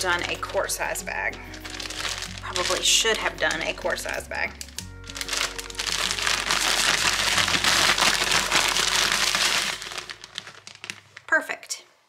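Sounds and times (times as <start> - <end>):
plastic bag crinkling rattle: 0.2 - 11.3.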